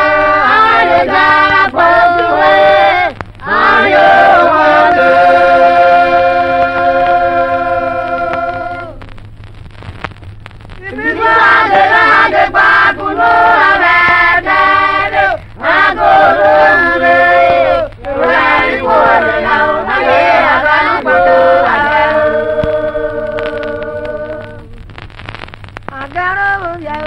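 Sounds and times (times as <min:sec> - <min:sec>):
group of voices chanting: 0:00.0 - 0:09.0, 0:10.9 - 0:24.5.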